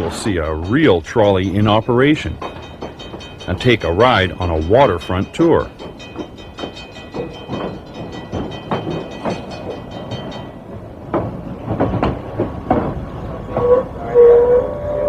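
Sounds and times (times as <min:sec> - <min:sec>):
train wheels clattering over joints: 0:00.0 - 0:15.0.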